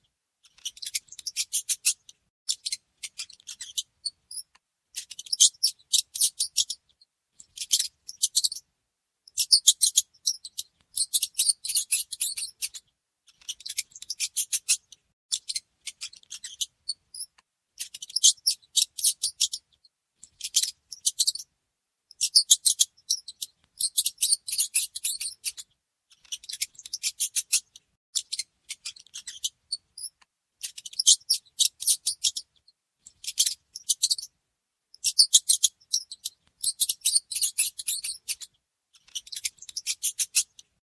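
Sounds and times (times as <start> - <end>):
mouse squeaking: 0.4 - 8.6, 9.3 - 21.5, 22.1 - 34.3, 34.9 - 40.7.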